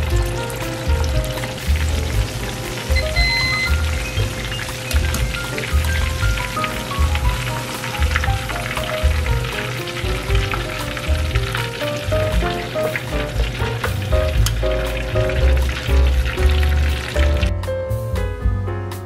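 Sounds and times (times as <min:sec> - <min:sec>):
meat sizzling in hot oil: 0:00.0 - 0:17.6
background music with bass line: 0:00.0 - 0:19.0.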